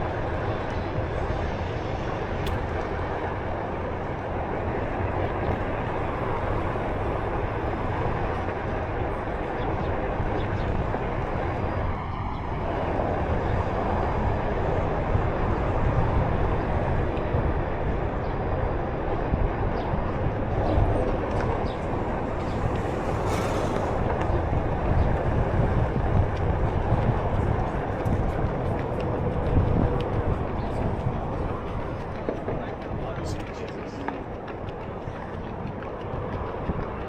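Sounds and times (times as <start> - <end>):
board wheels rolling on pavement: 0.0 - 37.0
wind on microphone: 0.0 - 37.0.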